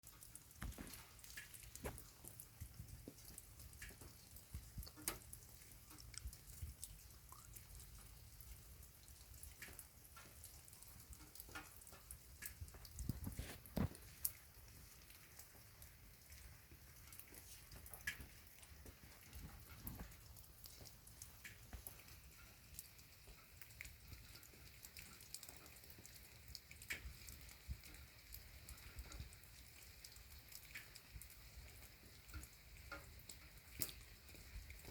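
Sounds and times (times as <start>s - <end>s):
raindrops ticking and tapping: 0.0s - 34.9s
faint steady hiss: 0.1s - 34.9s.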